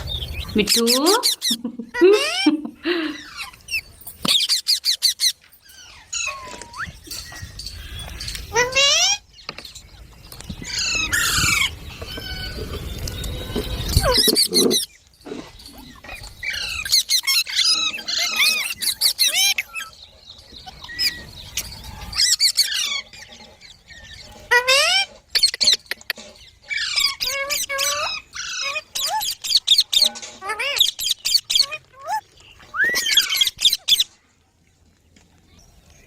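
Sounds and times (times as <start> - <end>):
parrot chirping and squawking: 0.3 - 9.3, 10.6 - 34.2.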